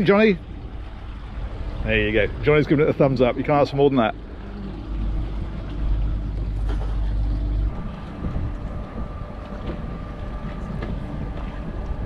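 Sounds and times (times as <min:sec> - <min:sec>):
faint constant tones: 0:00.0 - 0:12.0
low hum of boat machinery: 0:00.0 - 0:12.0
wind buffeting microphone: 0:00.0 - 0:12.0.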